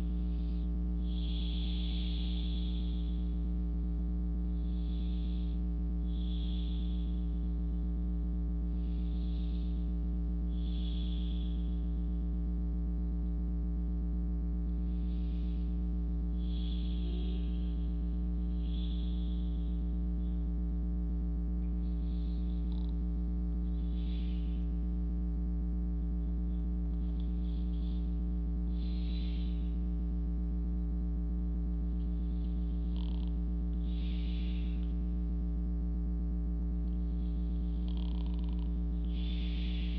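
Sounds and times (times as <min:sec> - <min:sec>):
soft slow breaths: 0:00.0 - 0:13.2, 0:14.6 - 0:20.7, 0:21.6 - 0:25.0, 0:26.0 - 0:35.8, 0:36.8 - 0:39.9
steady low hum: 0:00.0 - 0:39.9.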